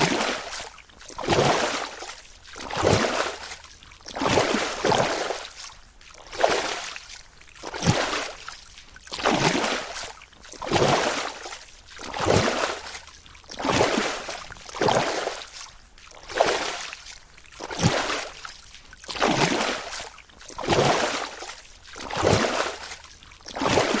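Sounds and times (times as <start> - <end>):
water sloshing against a boat: 0.0 - 24.0.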